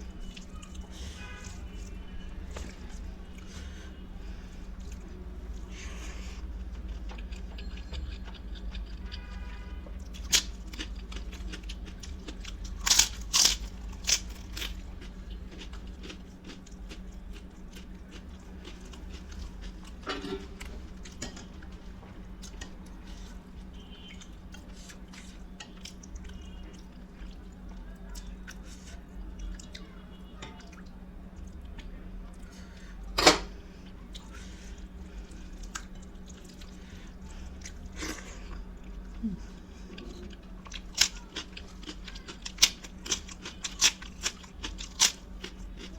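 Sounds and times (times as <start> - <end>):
person chewing food: 0.0 - 29.8, 33.9 - 45.9.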